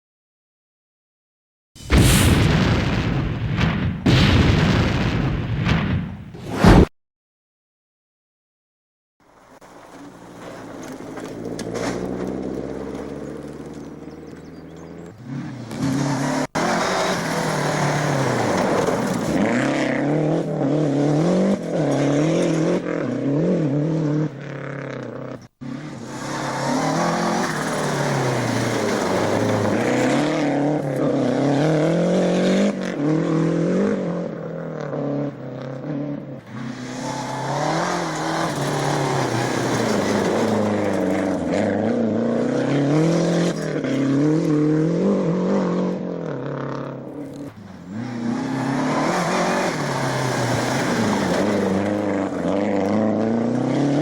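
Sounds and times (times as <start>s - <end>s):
rally car engines at full throttle: 9.3s - 54.0s.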